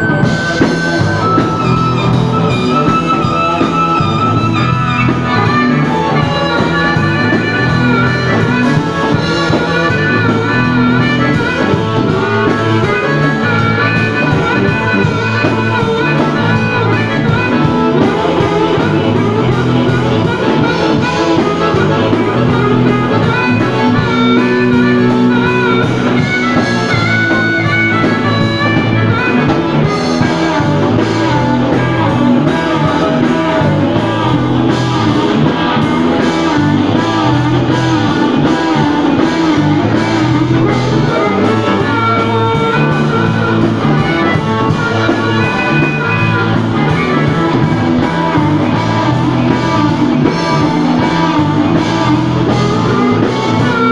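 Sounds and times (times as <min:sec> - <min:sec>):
bass: 0:00.0 - 0:53.9
drums: 0:00.0 - 0:53.9
guitar melody: 0:00.0 - 0:53.9.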